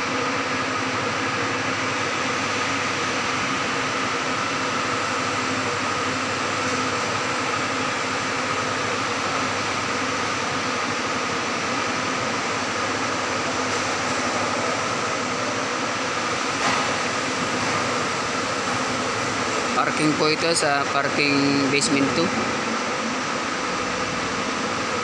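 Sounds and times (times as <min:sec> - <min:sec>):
ventilation fans humming: 0:00.0 - 0:25.0.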